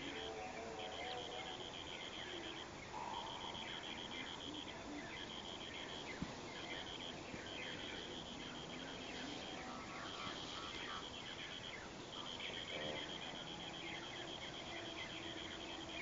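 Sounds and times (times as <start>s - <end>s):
birds chirping: 0.0s - 16.0s
high pulsed bird trill: 0.0s - 16.0s.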